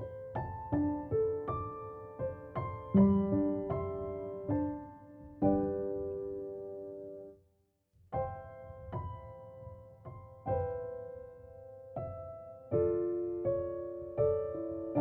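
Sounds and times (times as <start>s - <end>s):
slow soft solo piano: 0.0s - 7.4s, 8.0s - 15.0s.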